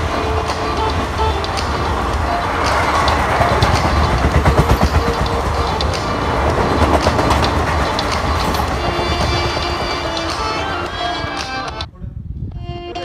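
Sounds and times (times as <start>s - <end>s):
train wheels clattering on rails: 0.0s - 11.8s.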